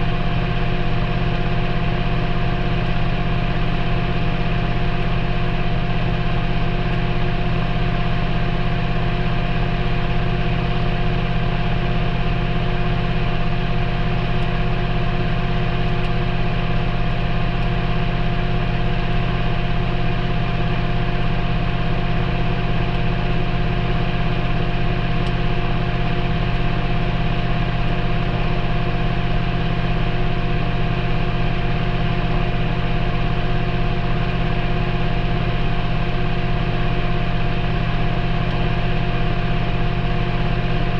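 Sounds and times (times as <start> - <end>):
washing machine hum and whine: 0.0 - 40.9.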